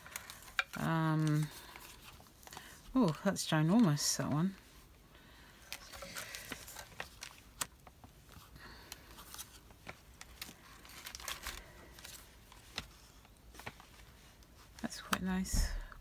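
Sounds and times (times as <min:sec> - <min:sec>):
paper rustling and crinkling: 0:00.0 - 0:15.9.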